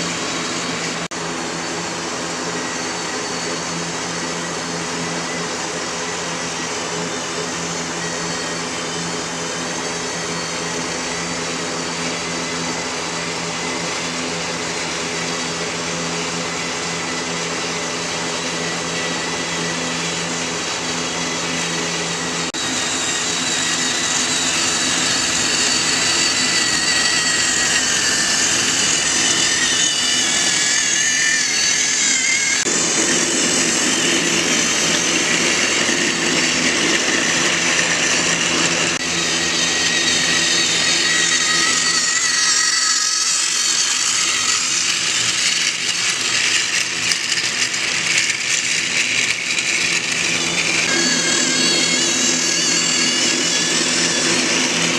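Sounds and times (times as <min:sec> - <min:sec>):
toy train motor whine: 0:00.0 - 0:54.9.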